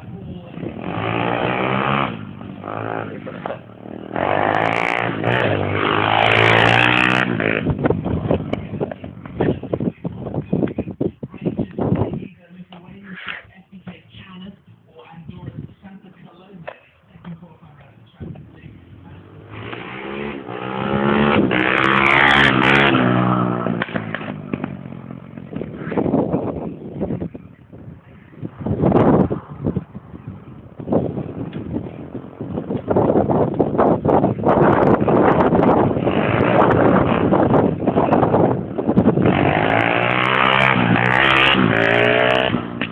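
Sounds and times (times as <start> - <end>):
dirt bike engine running hard: 0.0 - 12.0, 18.2 - 42.9.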